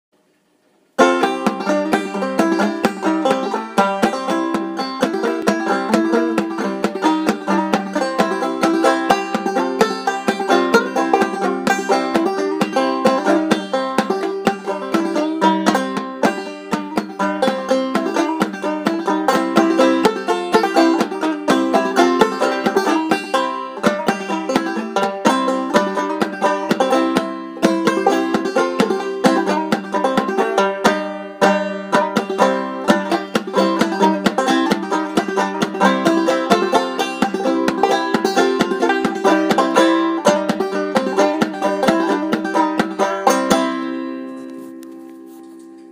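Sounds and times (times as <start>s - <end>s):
banjo plucked clawhammer style: 0.9s - 45.9s.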